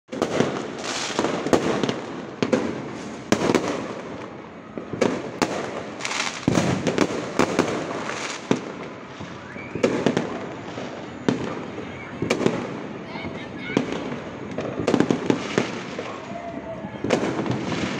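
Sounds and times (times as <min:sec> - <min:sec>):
fireworks crackling and banging: 0:00.1 - 0:17.9.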